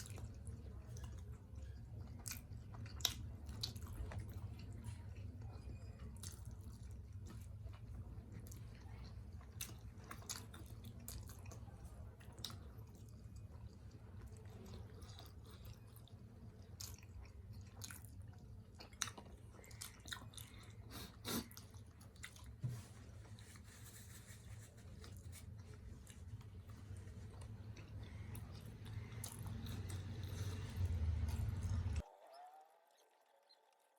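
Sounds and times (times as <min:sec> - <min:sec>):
person chewing: 0:00.0 - 0:05.3, 0:06.2 - 0:22.6, 0:23.9 - 0:32.0.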